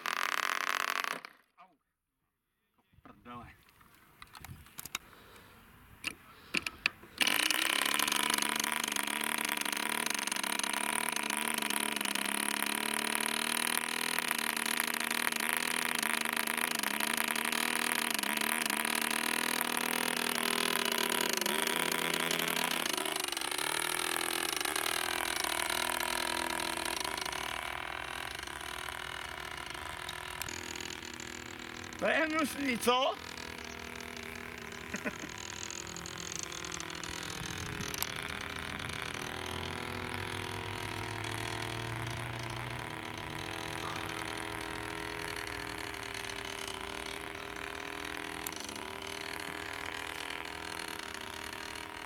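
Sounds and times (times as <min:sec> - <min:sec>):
model airplane motor and propeller: 0:00.0 - 0:01.6, 0:03.2 - 0:52.0.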